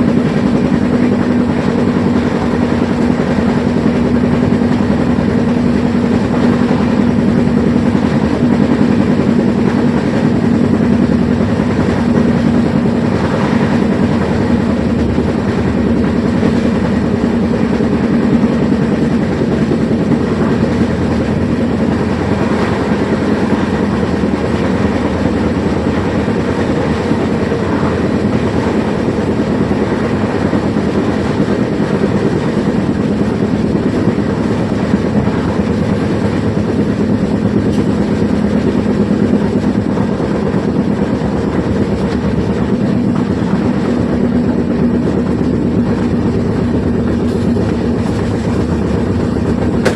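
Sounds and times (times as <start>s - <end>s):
train running on rails: 0.0s - 49.9s.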